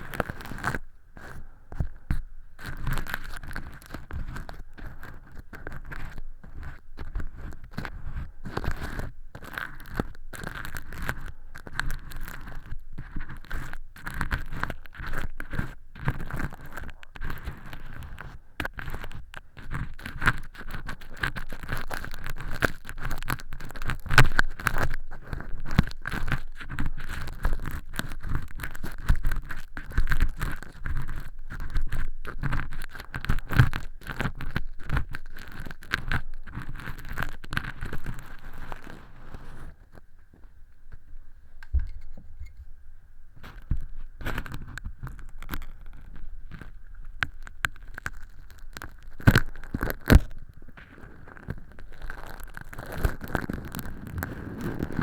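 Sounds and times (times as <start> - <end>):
earpick scraping: 0.0 - 55.0.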